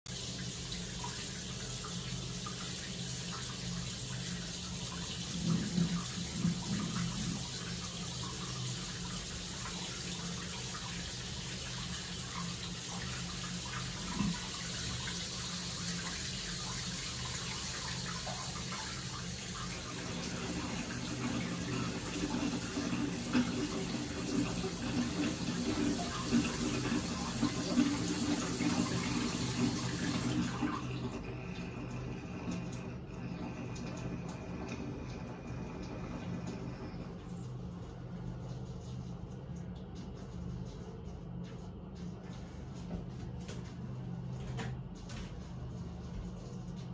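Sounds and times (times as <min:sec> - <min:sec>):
tap water running into bathtub: 0:00.1 - 0:43.7.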